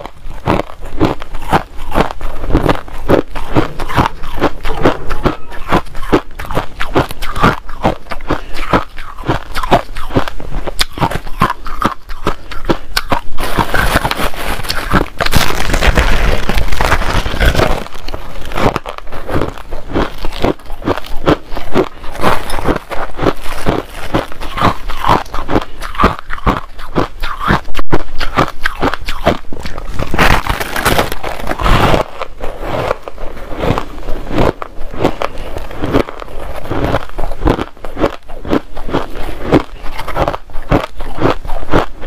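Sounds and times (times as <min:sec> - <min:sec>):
chewing ice crunches: 0:00.0 - 0:42.0.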